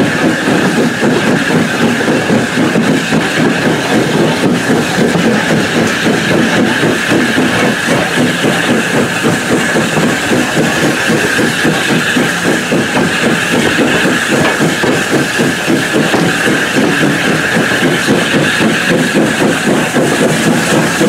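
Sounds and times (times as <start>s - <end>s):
train wheel and wind rush: 0.0s - 21.0s.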